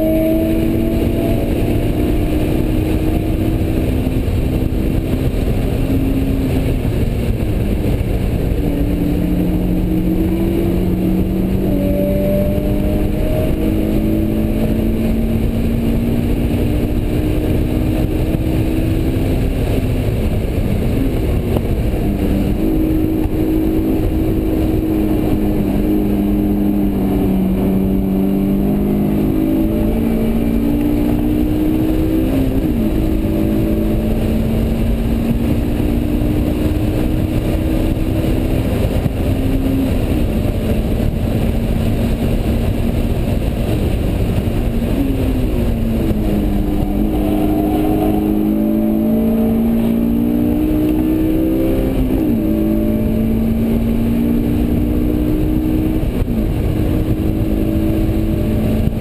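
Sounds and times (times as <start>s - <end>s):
car engine revving through gears: 0.0s - 59.0s
tyre and wind noise: 0.0s - 59.0s.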